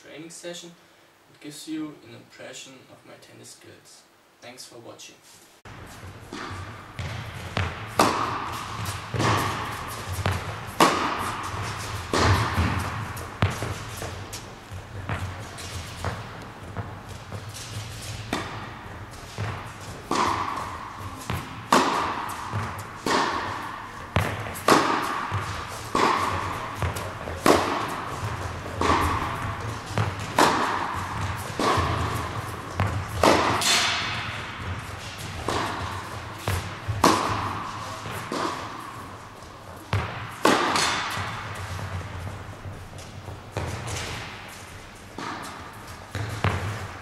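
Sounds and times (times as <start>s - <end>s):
tennis ball hit with racket: 5.7s - 47.0s.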